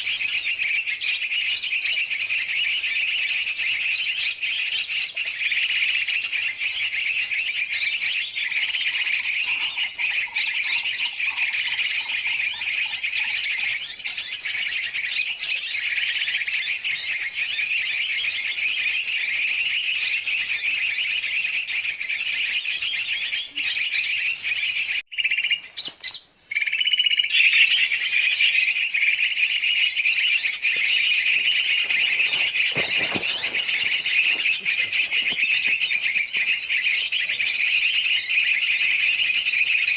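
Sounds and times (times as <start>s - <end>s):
many birds chattering: 0.0s - 39.9s.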